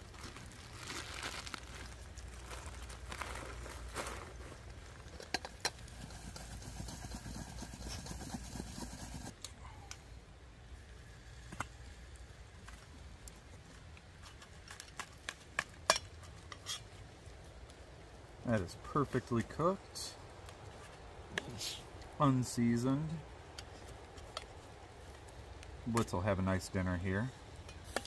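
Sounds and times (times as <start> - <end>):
campfire coals crackling: 0.0 - 28.0.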